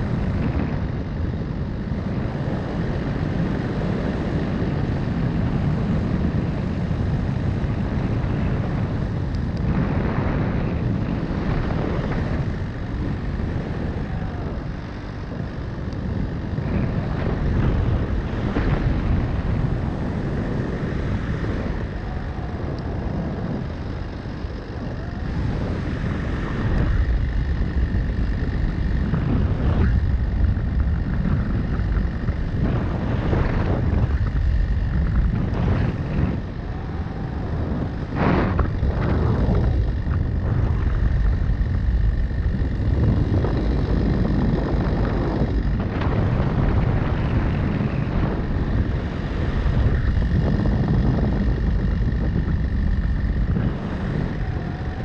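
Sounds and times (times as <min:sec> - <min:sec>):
wind on microphone: 0:00.0 - 0:55.0.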